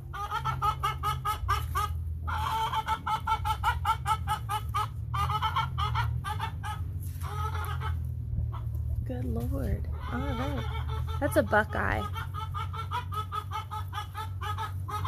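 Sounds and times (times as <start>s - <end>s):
hen cackling: 0.0s - 9.0s, 9.8s - 15.0s.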